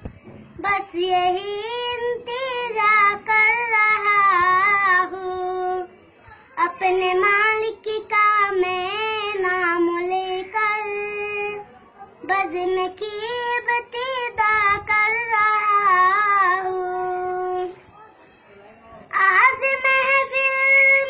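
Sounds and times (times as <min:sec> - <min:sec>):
boy singing solo: 0:00.6 - 0:05.9, 0:06.5 - 0:17.8, 0:19.1 - 0:21.0.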